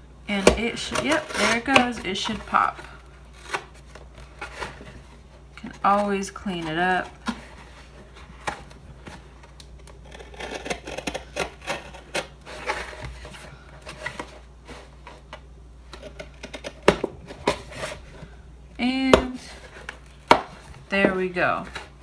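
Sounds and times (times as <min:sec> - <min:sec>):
knife scraping cardboard: 0:00.3 - 0:09.2, 0:10.0 - 0:15.3, 0:15.9 - 0:18.3, 0:19.1 - 0:22.0.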